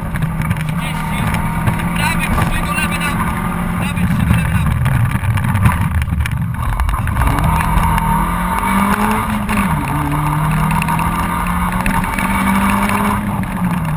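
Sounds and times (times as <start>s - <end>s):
car engine pulling hard: 0.0s - 13.9s
road and tyre noise: 0.0s - 13.9s.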